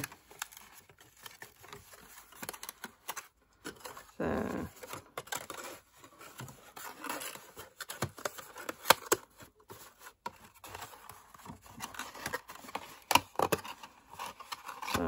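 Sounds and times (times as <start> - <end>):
cardboard box being folded: 0.0 - 15.0.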